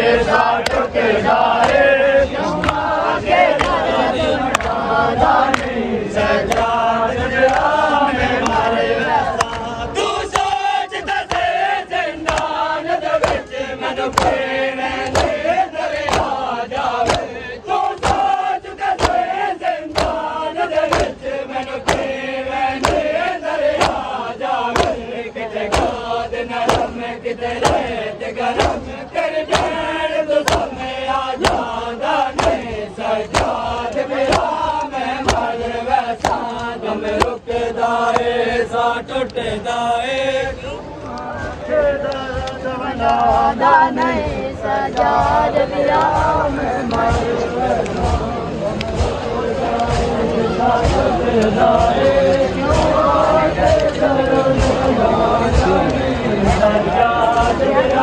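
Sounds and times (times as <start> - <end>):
men beating chests rhythmically: 0.0 - 58.0
men chanting together: 0.0 - 58.0.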